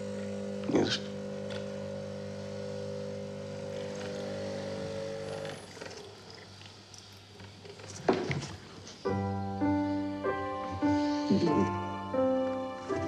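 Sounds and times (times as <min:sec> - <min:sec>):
low hum of several tones: 0:00.0 - 0:13.0.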